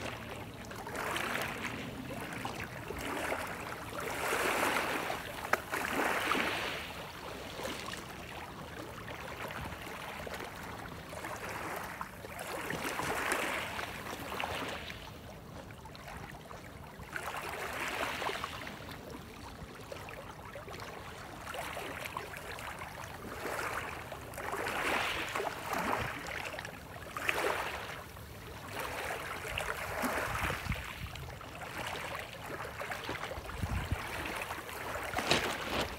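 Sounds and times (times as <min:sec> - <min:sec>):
small waves washing: 0:00.0 - 0:35.9.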